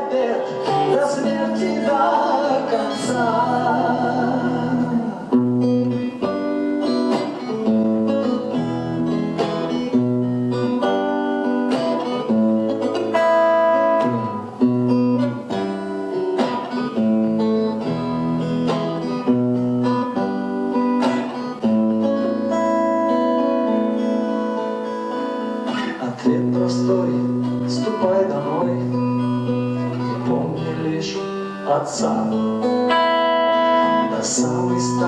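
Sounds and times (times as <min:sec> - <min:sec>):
acoustic guitar strumming chords: 0:00.0 - 0:35.0
held melody notes: 0:00.0 - 0:35.0.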